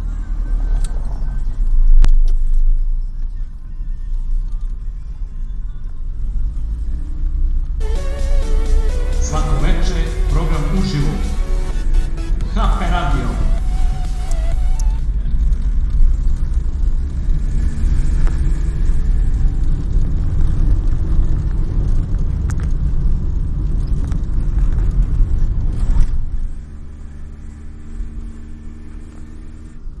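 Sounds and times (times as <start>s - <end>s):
car engine and road rumble: 0.0s - 10.4s, 11.4s - 30.0s.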